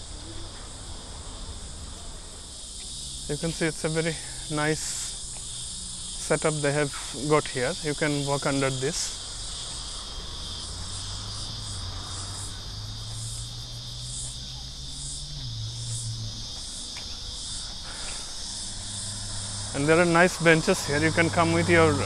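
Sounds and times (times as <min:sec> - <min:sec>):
insects buzzing in trees: 0:00.0 - 0:22.0.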